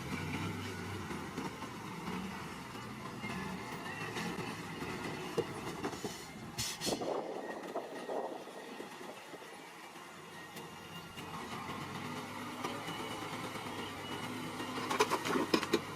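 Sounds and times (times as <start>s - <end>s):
bulldozer engine running: 0.0s - 15.9s.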